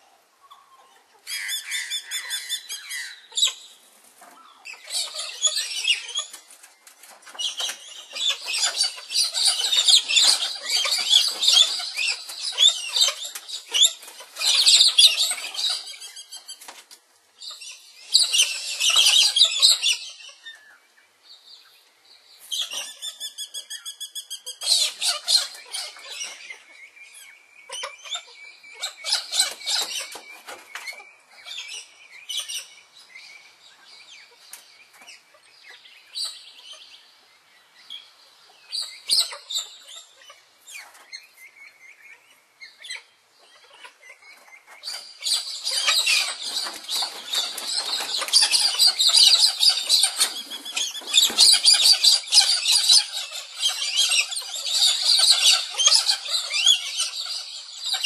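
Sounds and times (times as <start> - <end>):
wild birds chirping: 0.0 - 58.0.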